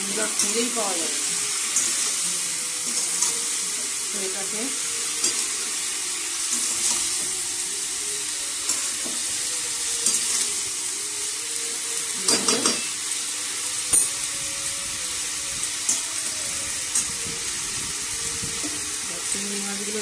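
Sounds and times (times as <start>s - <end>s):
vegetables sizzling in metal pan: 0.0s - 20.0s.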